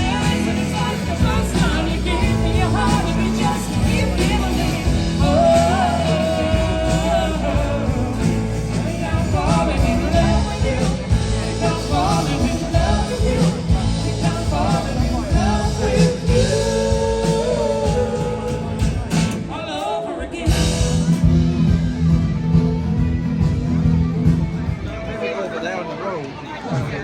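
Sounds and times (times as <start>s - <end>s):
person singing: 0.0s - 21.8s
live rock band playing: 0.0s - 27.0s.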